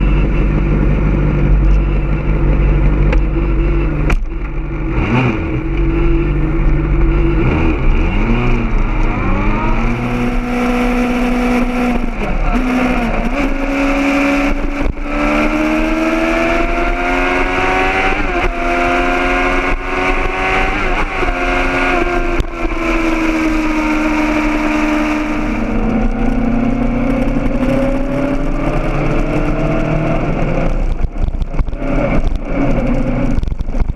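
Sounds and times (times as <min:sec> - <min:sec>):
motorcycle engine accelerating: 0:00.0 - 0:33.9
wind rumble on microphone: 0:00.0 - 0:33.9.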